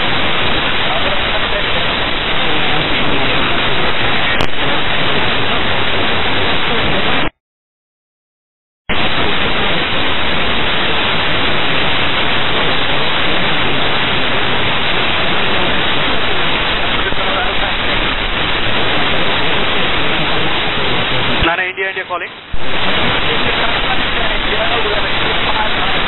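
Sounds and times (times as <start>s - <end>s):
radio static hiss: 0.0s - 7.3s, 8.9s - 26.0s.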